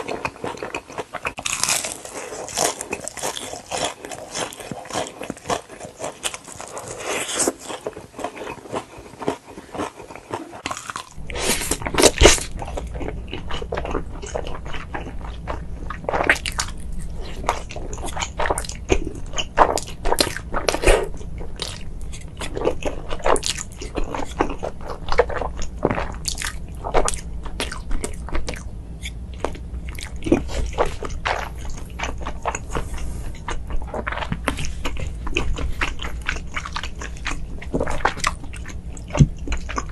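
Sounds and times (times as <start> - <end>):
crunchy food being chewed: 0.0 - 39.9
steady low hum: 0.0 - 39.9.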